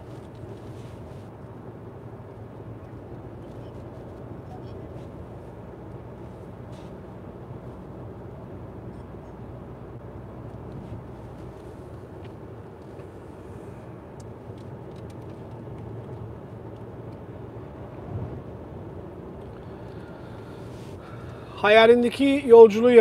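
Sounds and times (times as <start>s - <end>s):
car road and engine noise: 0.0s - 23.0s.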